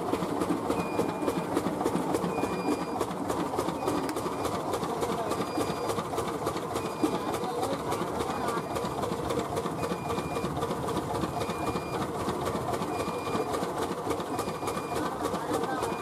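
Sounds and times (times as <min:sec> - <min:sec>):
machine rattling grains: 0:00.0 - 0:16.0.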